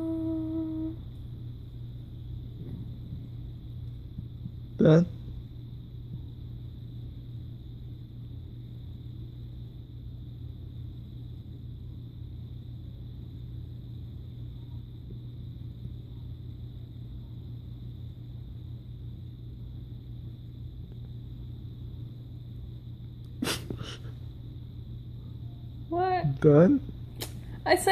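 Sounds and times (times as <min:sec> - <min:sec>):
faint high-pitched whine: 0:00.0 - 0:27.9
low room hum: 0:00.0 - 0:27.9.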